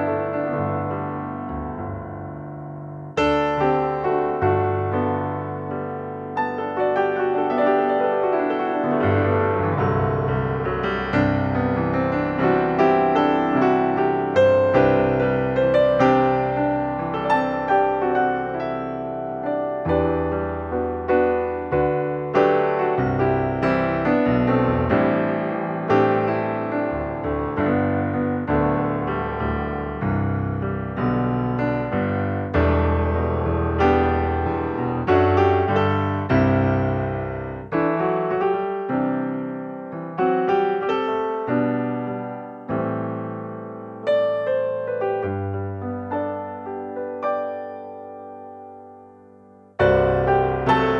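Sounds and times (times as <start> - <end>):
slow piano music: 0.0 - 50.9.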